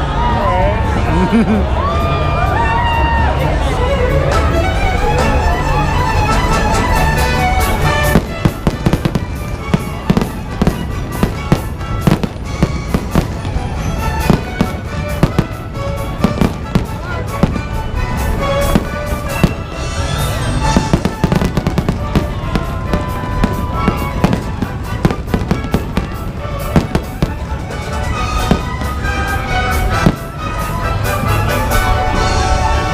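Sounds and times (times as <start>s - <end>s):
music: 0.0s - 32.9s
fireworks bangs and crackles: 6.1s - 32.9s.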